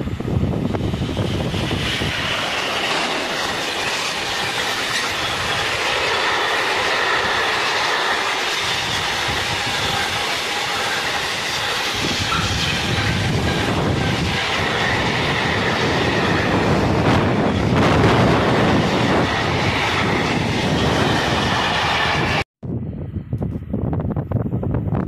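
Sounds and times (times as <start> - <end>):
electric locomotive passing: 0.0 - 22.4
train wheels rumbling on rails: 0.0 - 22.4.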